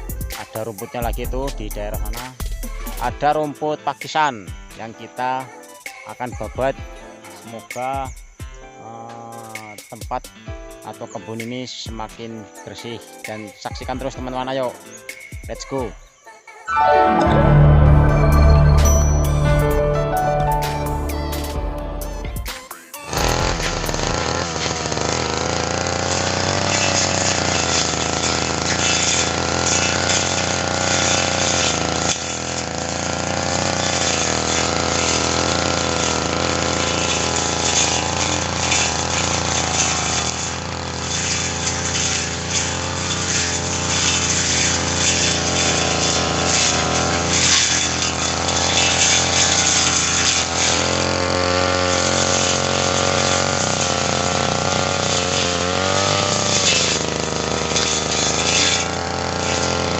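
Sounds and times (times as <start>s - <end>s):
brush cutter cutting grass: 0.0s - 8.1s, 8.8s - 10.0s, 10.8s - 15.9s, 17.9s - 59.9s.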